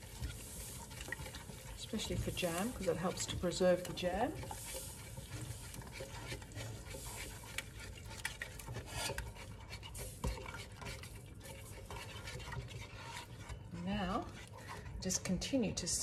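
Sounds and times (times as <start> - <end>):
wooden spoon stirring in a pot: 0.0 - 16.0.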